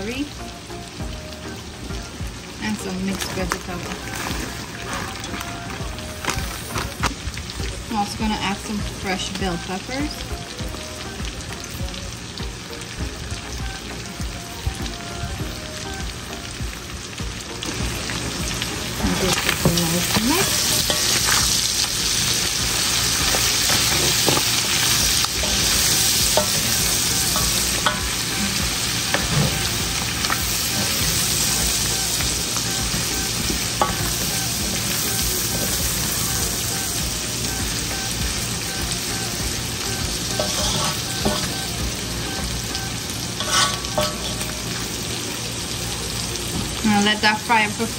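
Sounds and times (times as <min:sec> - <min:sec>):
food sizzling in a frying pan: 0:00.0 - 0:47.9.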